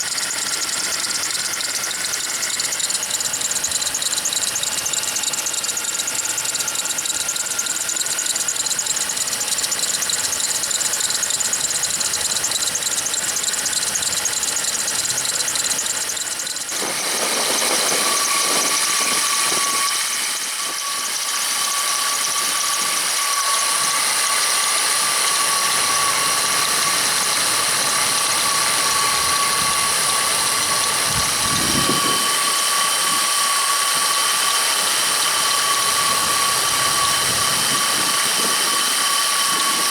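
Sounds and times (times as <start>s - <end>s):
drive belt squealing: 0.0s - 39.9s
engine running: 0.0s - 39.9s.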